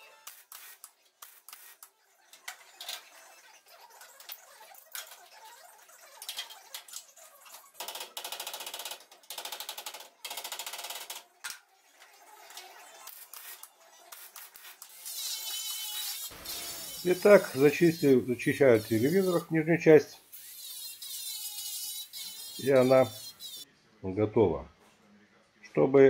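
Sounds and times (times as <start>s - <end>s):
welder crackling: 0.0s - 23.6s.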